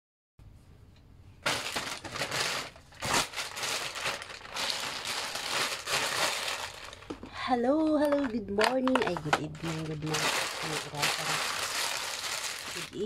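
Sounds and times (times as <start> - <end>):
crinkling and rustling: 1.4 - 13.0.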